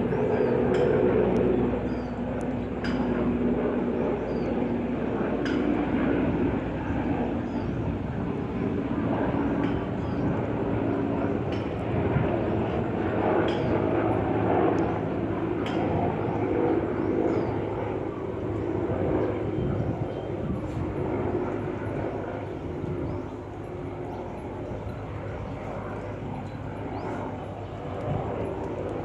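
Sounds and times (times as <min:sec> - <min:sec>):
helicopter rotor drone: 0:00.0 - 0:29.0.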